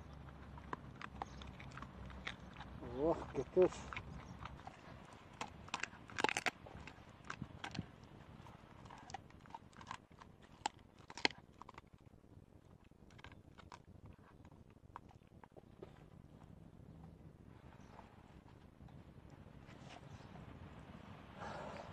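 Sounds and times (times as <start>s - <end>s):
dog crunching and chewing bones: 0.0s - 20.3s.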